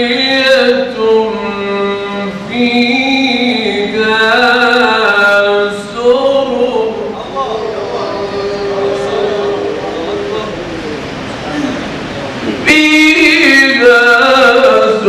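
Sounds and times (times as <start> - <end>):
man reciting melodically: 0.0 - 10.8, 12.4 - 15.0.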